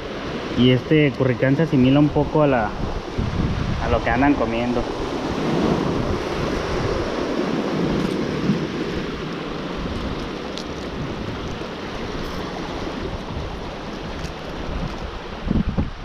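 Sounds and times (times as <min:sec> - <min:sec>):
sea surf washing against rocks: 0:00.0 - 0:16.0
wind buffeting microphone: 0:01.3 - 0:16.0.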